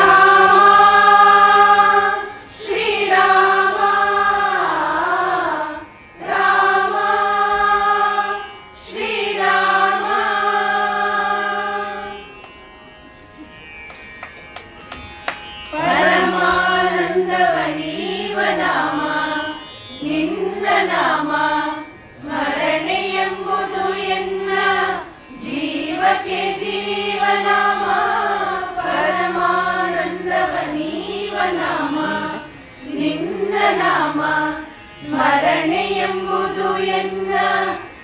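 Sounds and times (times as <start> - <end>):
women singing in unison: 0.0 - 12.1, 15.7 - 37.9.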